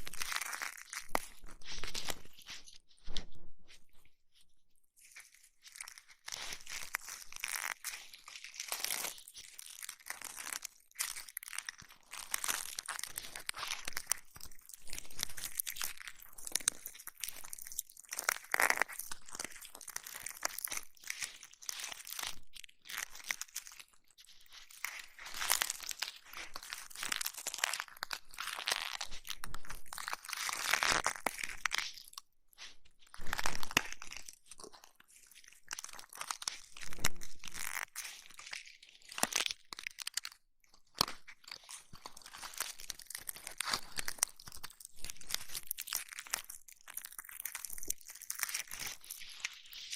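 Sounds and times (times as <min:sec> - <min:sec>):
crackling and rubbing on microphone: 0:00.0 - 0:49.9.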